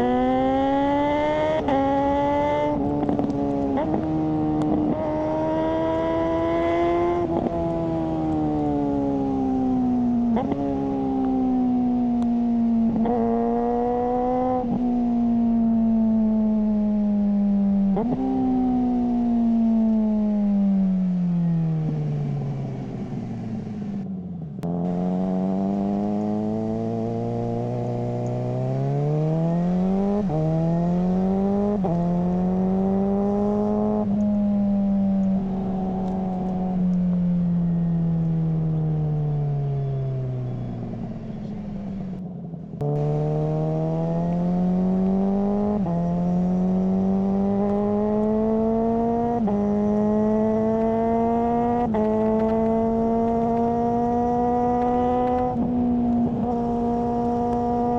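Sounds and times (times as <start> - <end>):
motorcycle engine shifting gears: 0.0 - 57.9.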